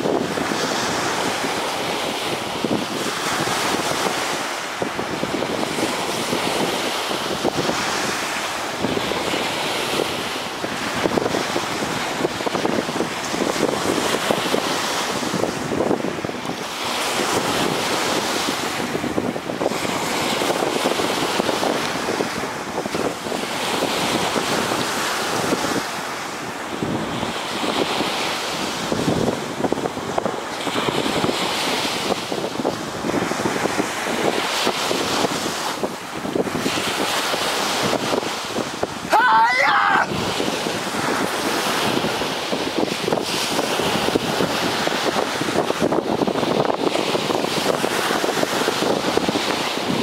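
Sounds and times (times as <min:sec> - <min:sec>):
ocean surf breaking on shore: 0:00.0 - 0:50.0
wind buffeting microphone: 0:00.0 - 0:50.0.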